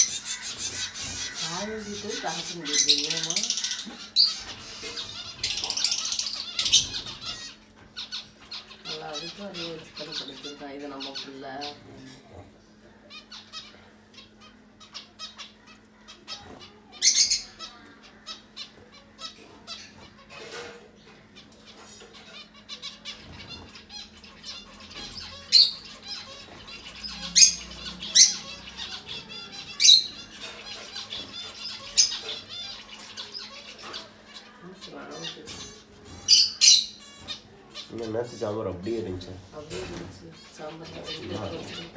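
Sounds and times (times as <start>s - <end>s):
finches chirping: 0.0s - 41.9s.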